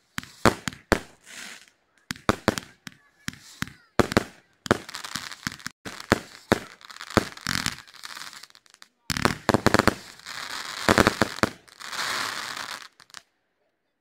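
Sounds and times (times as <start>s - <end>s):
firework bangs: 0.0s - 13.2s
firework crackling: 0.0s - 13.2s.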